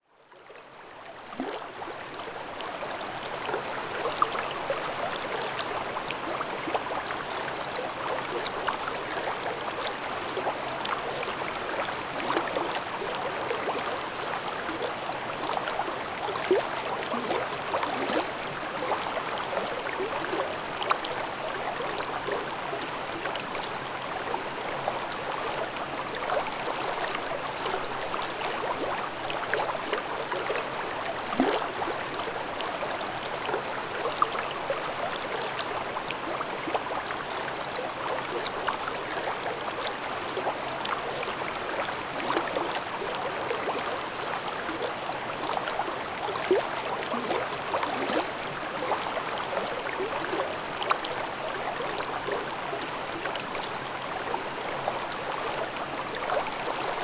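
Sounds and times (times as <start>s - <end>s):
mountain stream babbling: 1.0s - 57.0s.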